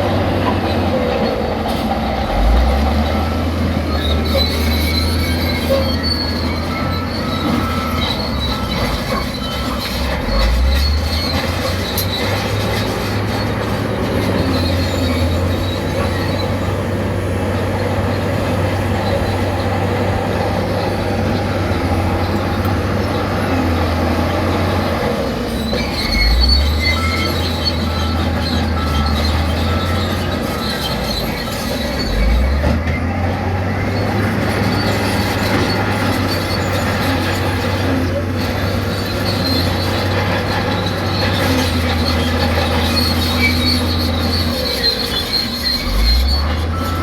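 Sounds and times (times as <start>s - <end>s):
diesel engine under load: 0.0s - 47.0s
steel tracks squealing and clanking: 0.0s - 47.0s.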